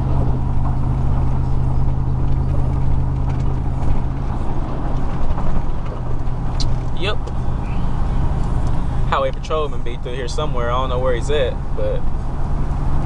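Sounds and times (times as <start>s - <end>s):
engine and exhaust drone: 0.0s - 13.0s
road and wind noise: 0.0s - 13.0s.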